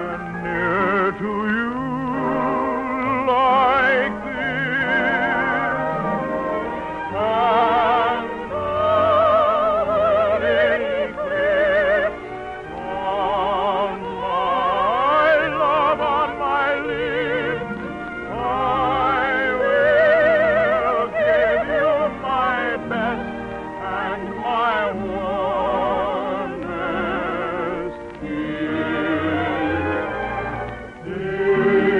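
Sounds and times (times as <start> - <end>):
orchestral accompaniment: 0.0 - 31.9
soprano singing operatically: 0.0 - 31.9.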